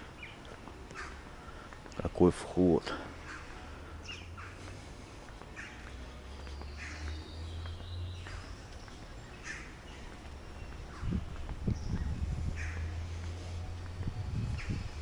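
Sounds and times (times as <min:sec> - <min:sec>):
birds calling harshly: 0:00.0 - 0:15.0.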